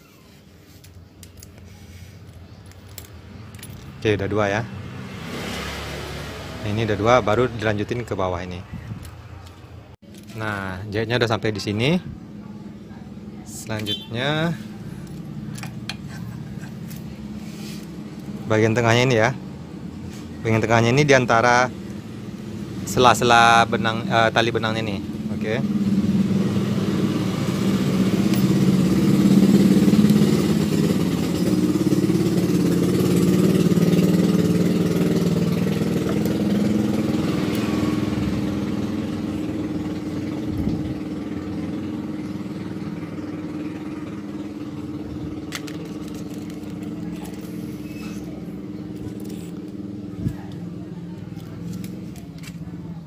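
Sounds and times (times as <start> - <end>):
vehicle engine running: 8.9 - 53.0.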